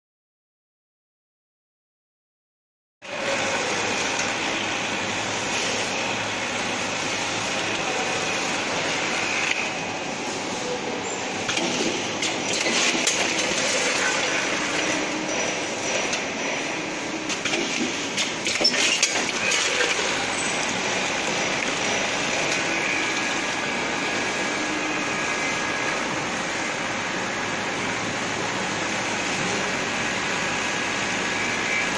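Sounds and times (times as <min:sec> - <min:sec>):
packaging machine running: 0:03.1 - 0:31.9.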